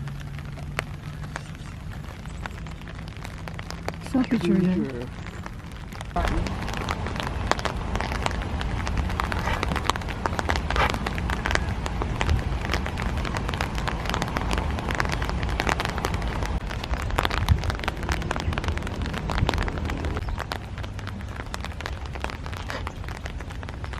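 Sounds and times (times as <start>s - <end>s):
low rumble: 0.0s - 23.7s
rain pattering: 0.0s - 23.9s.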